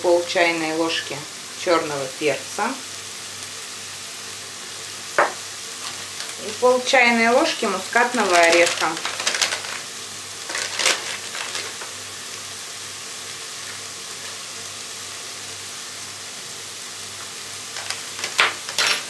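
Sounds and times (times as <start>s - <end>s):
mushrooms and onions sizzling: 0.0s - 19.0s.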